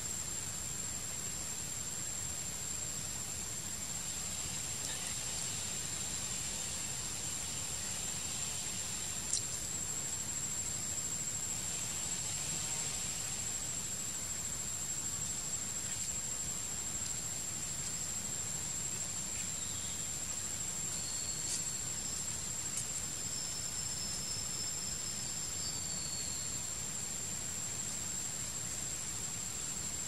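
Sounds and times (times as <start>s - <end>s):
even hiss: 0.0s - 30.0s
insect drone: 0.0s - 30.0s.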